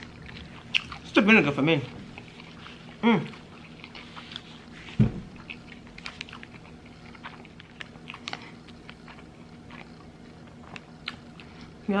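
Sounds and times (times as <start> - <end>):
person chewing food: 0.0 - 11.9.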